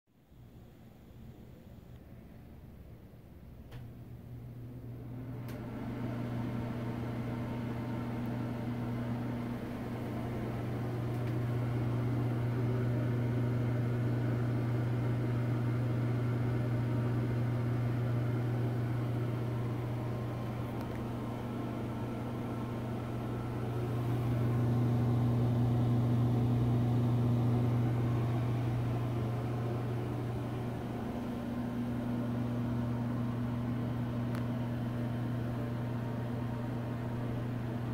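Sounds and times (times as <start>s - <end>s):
exhaust fan humming: 1.2s - 37.9s.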